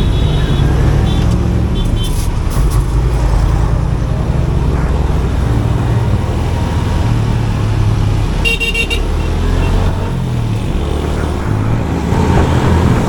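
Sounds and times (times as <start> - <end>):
motorcycle engine and road noise: 0.0 - 13.0.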